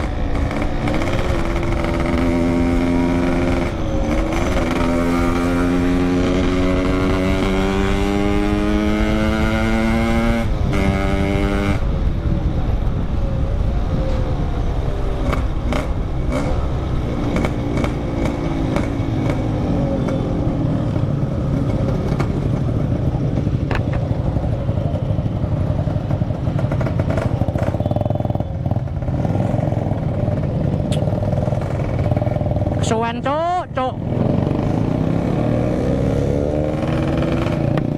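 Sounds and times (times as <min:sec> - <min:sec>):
two-stroke motorcycle engine revving: 0:00.0 - 0:11.8, 0:15.2 - 0:23.6, 0:26.0 - 0:37.9
wind and road noise: 0:00.0 - 0:37.9.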